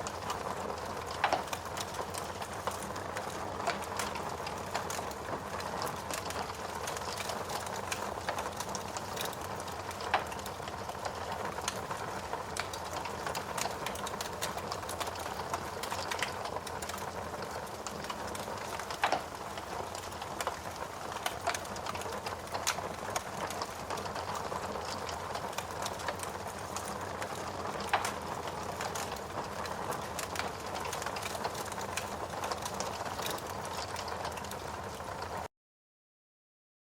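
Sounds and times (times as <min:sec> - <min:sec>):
wood fire crackling and popping: 0:00.0 - 0:35.5.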